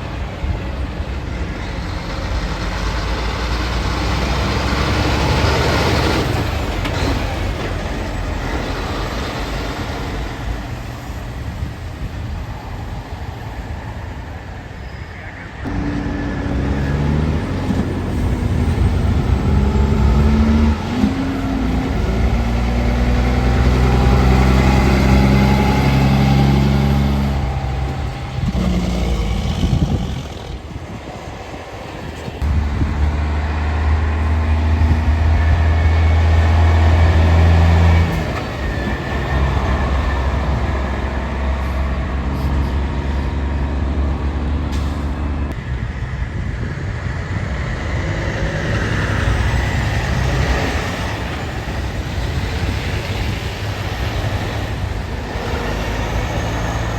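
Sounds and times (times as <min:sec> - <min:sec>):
truck engine shifting gears: 0:00.0 - 0:12.6, 0:15.6 - 0:56.9
heavy diesel trucks passing: 0:00.0 - 0:56.9
loud low engine rumble: 0:00.0 - 0:56.9.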